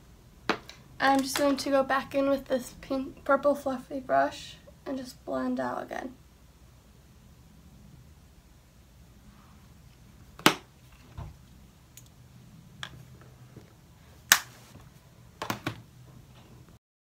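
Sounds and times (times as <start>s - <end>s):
low steady hum: 0.0s - 16.8s.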